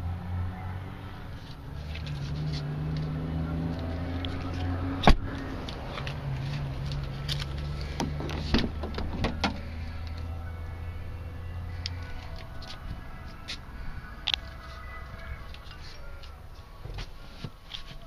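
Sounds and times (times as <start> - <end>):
truck cab hum: 0.0 - 18.0.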